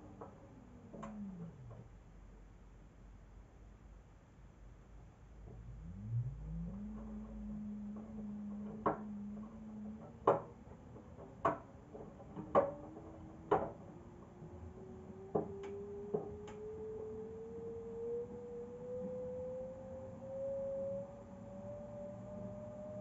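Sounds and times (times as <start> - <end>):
washing machine motor whine: 0.0 - 1.9, 5.4 - 23.0.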